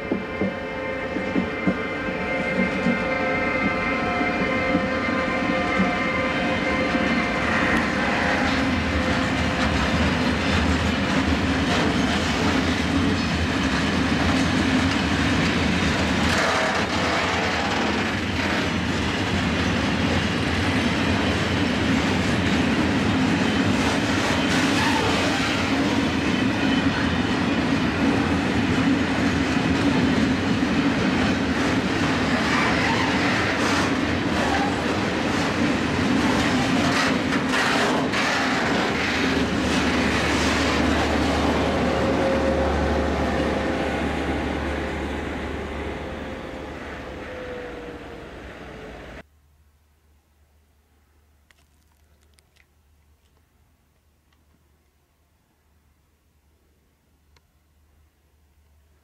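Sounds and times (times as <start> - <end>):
train wheels rumbling on rail: 0.0 - 49.3
locomotive steady tones: 0.0 - 49.8.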